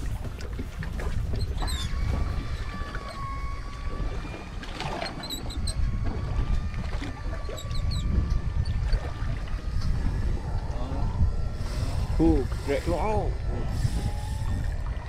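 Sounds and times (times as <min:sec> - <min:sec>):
water and wind rumble: 0:00.0 - 0:15.0
faint thin whine: 0:01.4 - 0:15.0.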